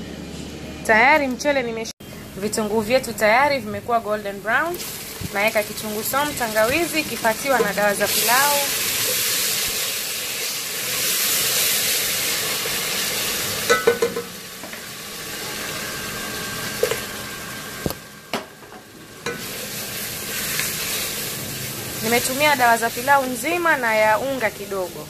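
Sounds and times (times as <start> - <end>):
onions sizzling in hot oil: 3.0 - 25.0.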